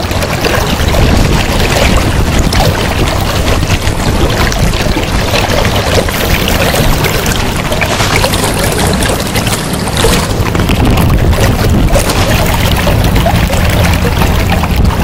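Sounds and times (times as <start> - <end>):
river water rushing over rocks: 0.0 - 15.0
wind buffeting microphone: 0.0 - 15.0.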